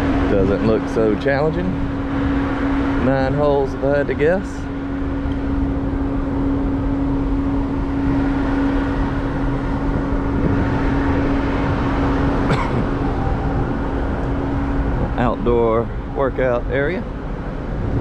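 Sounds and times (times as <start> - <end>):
ship machinery hum: 0.0 - 18.0
wind on microphone: 0.0 - 18.0.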